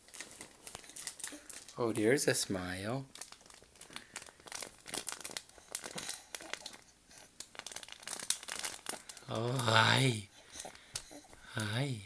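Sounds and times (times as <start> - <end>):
rustling and crinkling: 0.0 - 9.7.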